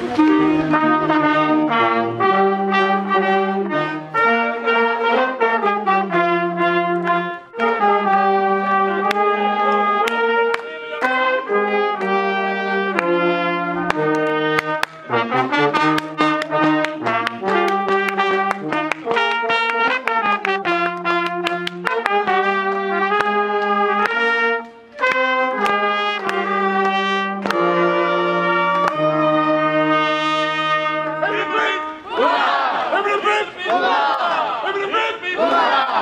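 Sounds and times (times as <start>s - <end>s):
brass band playing held chords: 0.0s - 36.0s.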